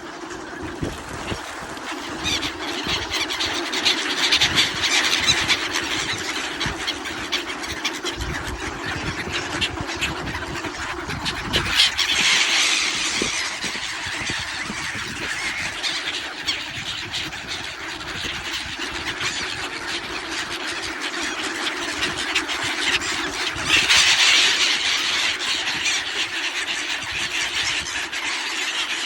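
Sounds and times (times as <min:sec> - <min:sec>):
ducks calling: 0:00.0 - 0:29.0.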